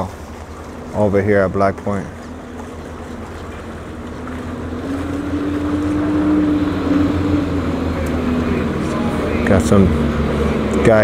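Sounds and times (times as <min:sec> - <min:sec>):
motorboat engine hum: 0:00.0 - 0:11.0.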